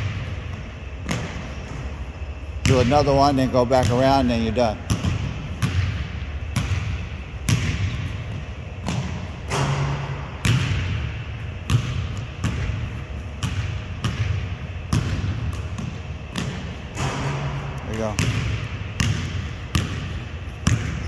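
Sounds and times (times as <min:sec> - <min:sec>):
basketball bouncing on wooden floor: 0:00.0 - 0:01.8, 0:04.8 - 0:21.0.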